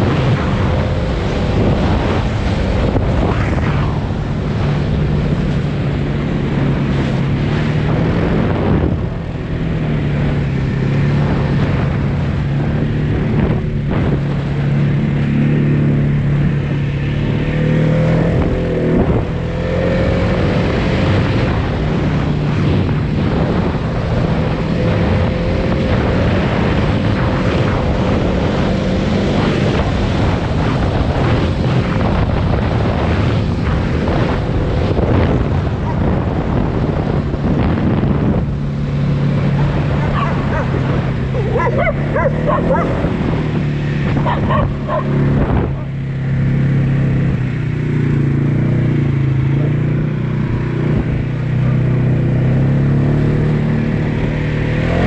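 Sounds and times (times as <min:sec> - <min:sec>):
atv engine running: 0:00.0 - 0:55.0
wind buffeting microphone: 0:00.0 - 0:55.0.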